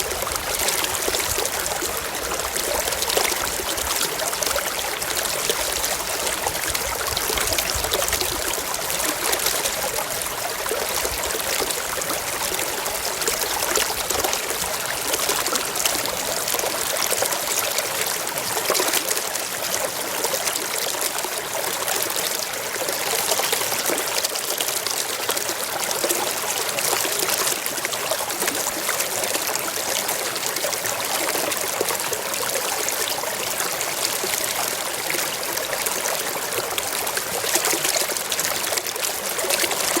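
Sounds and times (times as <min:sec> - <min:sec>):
stream flowing and trickling: 0:00.0 - 0:40.0.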